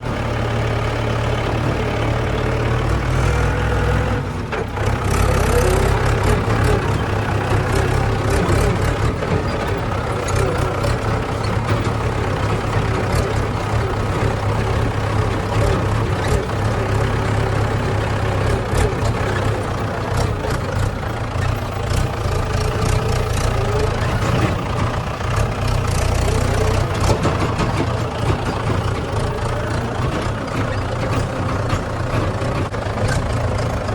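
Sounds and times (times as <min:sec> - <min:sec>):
heavy diesel engine running: 0:00.0 - 0:33.9
knocks and clatters: 0:04.4 - 0:33.9.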